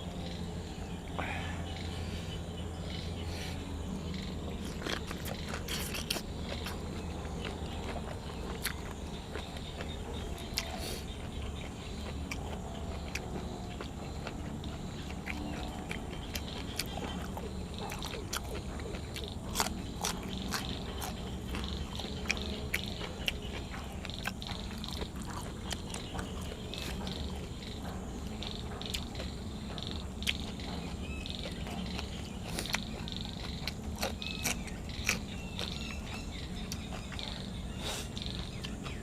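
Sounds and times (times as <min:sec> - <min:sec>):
low background hum: 0:00.0 - 0:39.0
person chewing crunchy food: 0:00.0 - 0:39.0.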